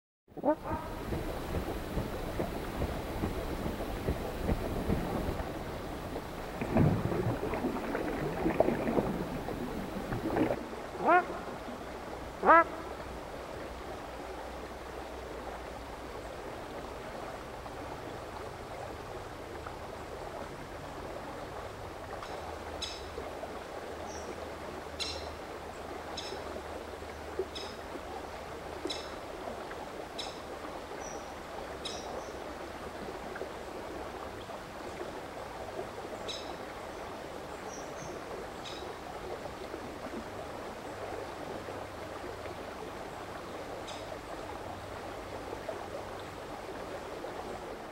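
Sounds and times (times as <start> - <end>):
mountain stream flowing: 0.4 - 47.9.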